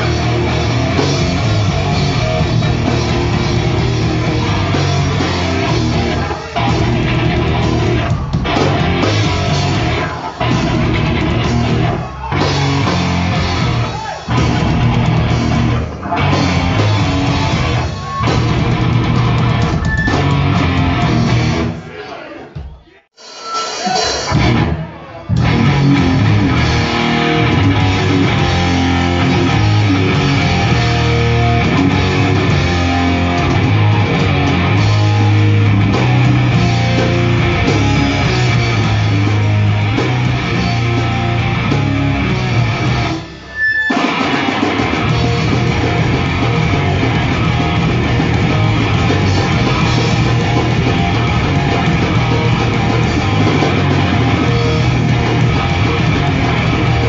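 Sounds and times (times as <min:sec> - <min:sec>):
heavy rock band playing: 0:00.0 - 0:22.0, 0:23.2 - 0:57.0.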